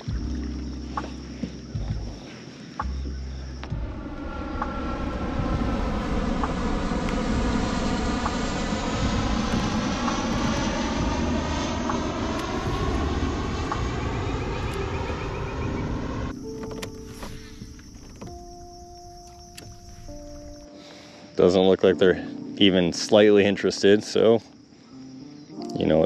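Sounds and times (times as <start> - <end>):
propeller airplane engine drone: 0.0 - 20.9.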